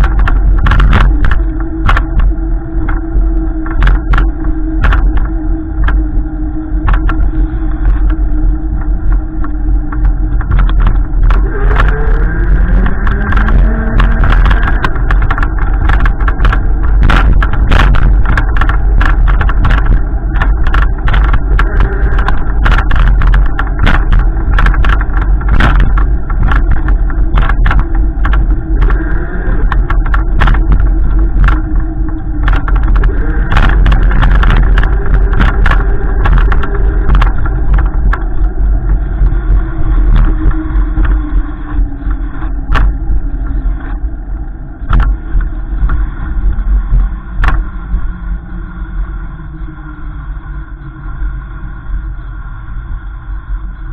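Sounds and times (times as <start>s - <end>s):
car engine rumbling: 0.0s - 53.9s
sharp crackles: 0.0s - 53.9s.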